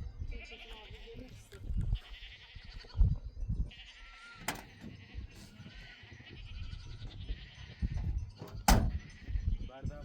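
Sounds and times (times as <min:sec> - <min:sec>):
livestock bleating: 0:00.3 - 0:03.1, 0:03.7 - 0:09.9.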